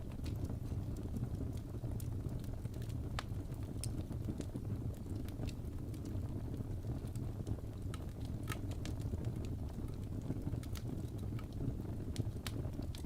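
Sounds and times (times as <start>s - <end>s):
fire burning in a fireplace: 0.0s - 13.0s.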